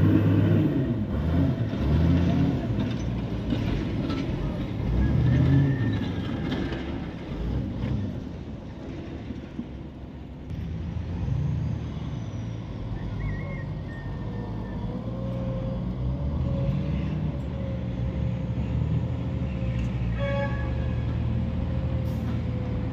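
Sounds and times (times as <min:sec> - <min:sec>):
diesel machinery rumble: 0:00.0 - 0:22.9.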